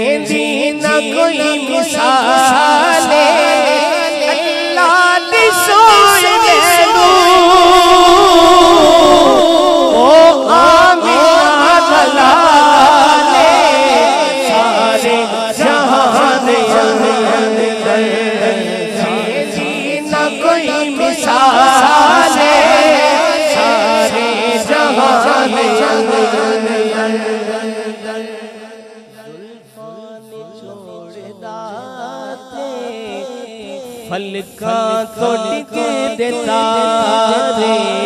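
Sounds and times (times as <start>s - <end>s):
men singing devotional song: 0.0s - 38.0s.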